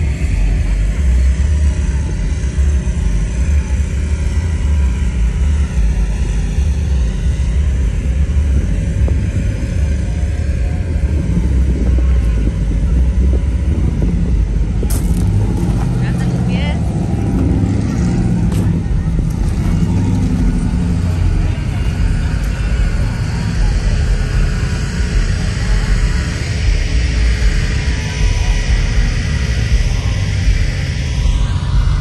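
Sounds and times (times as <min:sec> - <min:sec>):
wind buffeting microphone: 0:04.5 - 0:32.0.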